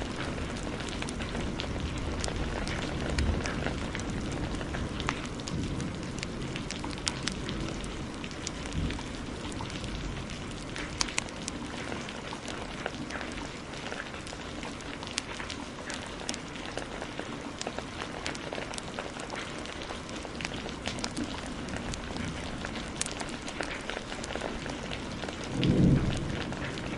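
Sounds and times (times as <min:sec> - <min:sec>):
heavy rain: 0:00.0 - 0:26.9
wood fire crackling and popping: 0:00.0 - 0:26.9.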